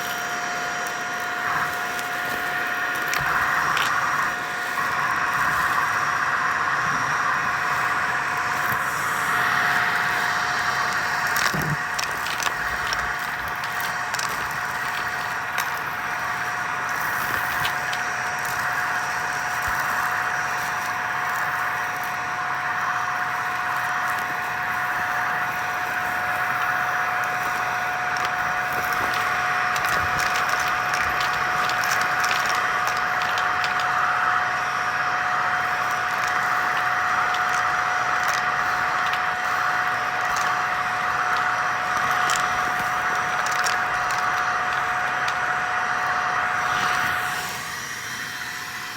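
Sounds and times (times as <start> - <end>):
vacuum cleaner whine: 0.0 - 48.9.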